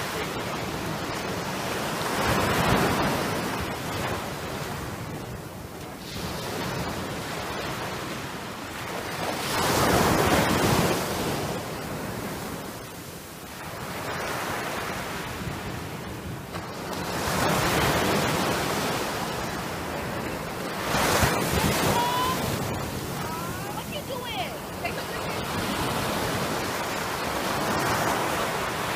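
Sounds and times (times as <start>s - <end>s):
small surf washing up sand: 0.0s - 28.9s.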